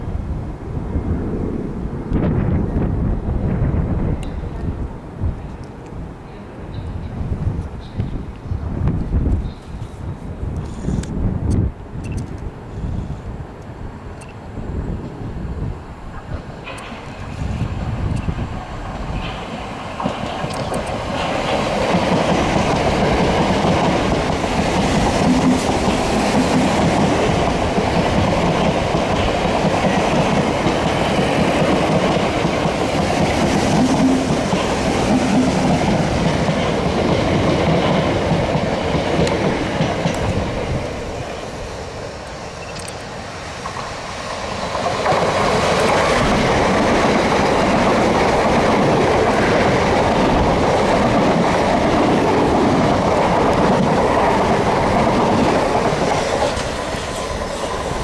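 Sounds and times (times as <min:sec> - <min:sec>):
electric train passing at speed: 0:00.0 - 0:58.0
second electric train passing: 0:00.0 - 0:58.0.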